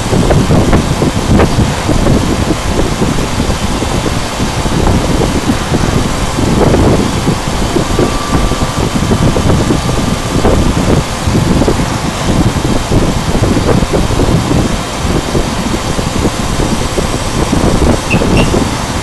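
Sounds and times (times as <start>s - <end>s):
router machine running: 0.0s - 19.0s.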